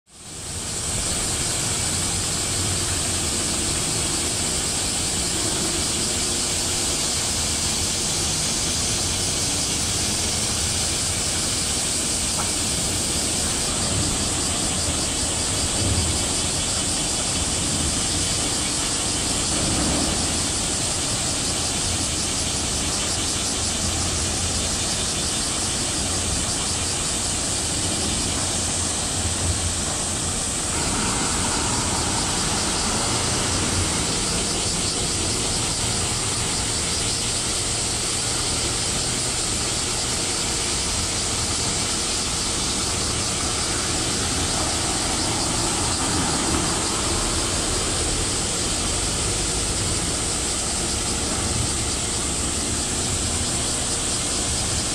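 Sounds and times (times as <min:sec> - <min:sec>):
high-pitched buzzing hiss: 0:00.1 - 0:54.9.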